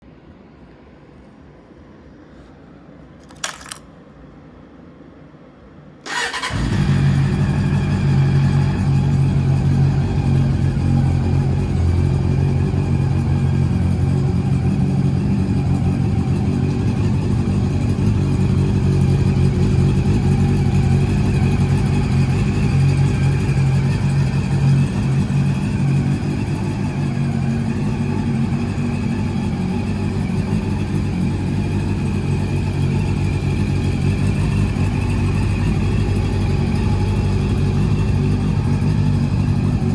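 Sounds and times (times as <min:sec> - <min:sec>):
motorcycle engine idling: 0:06.1 - 0:39.9.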